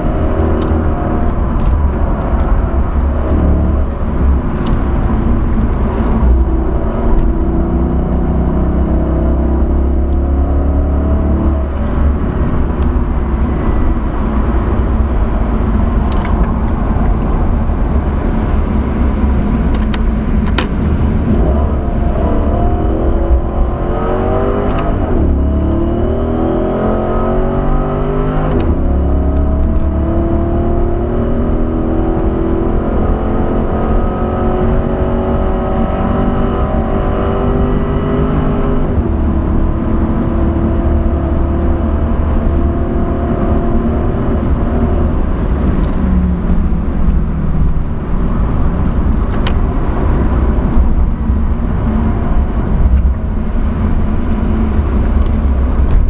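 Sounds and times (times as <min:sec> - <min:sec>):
car engine at speed: 0:00.0 - 0:56.0.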